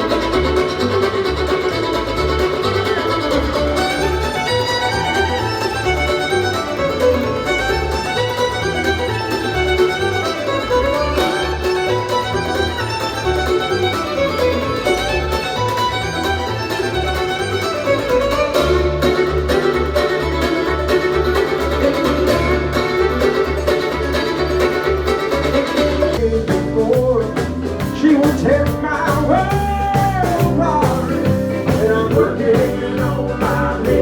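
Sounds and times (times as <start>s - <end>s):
fiddle playing lead: 0.0s - 34.0s
guitar: 0.0s - 34.0s
pulsing bass line: 0.0s - 34.0s.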